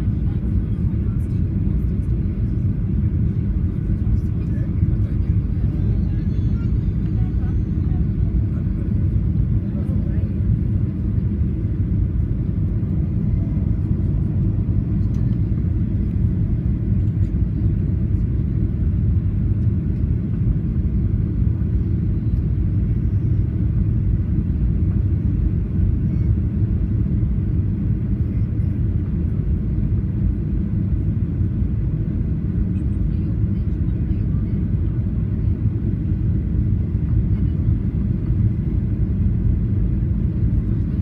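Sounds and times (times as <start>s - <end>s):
jet airliner low rumble: 0.0s - 41.0s.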